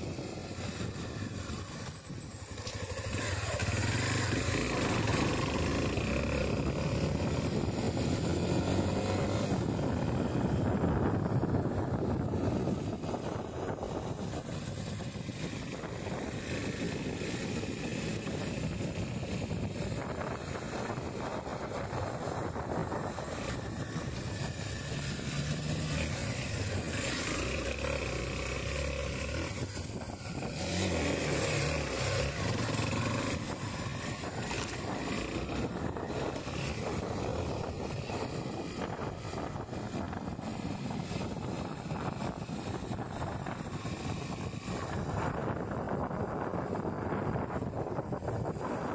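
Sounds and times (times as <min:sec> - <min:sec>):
motorcycle engine running: 0:00.0 - 0:48.9
wind buffeting microphone: 0:03.0 - 0:48.9.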